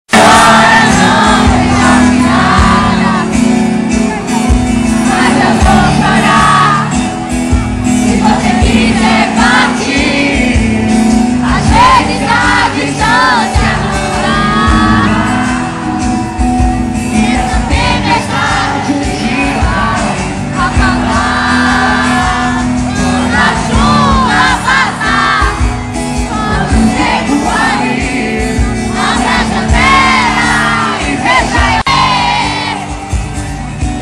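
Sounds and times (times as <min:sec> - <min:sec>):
person singing: 0:00.1 - 0:33.2
band playing pop music: 0:00.1 - 0:34.0
crowd shouting and cheering: 0:00.1 - 0:34.0.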